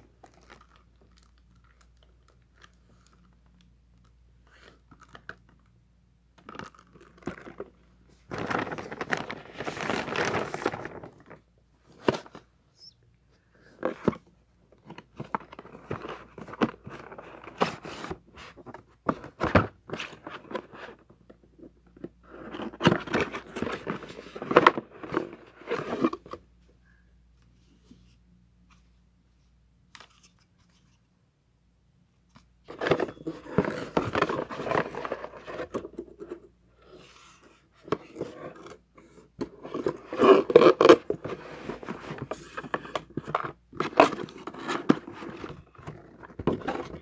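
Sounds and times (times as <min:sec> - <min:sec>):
plastic and cardboard crinkling: 0:00.0 - 0:05.7, 0:06.4 - 0:12.9, 0:13.7 - 0:26.4, 0:32.3 - 0:47.0.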